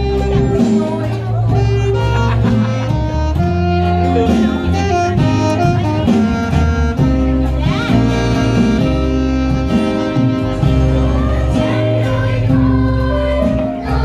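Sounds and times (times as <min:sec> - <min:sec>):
guitar: 0:00.0 - 0:14.0
sustained instrumental chords: 0:00.0 - 0:14.0.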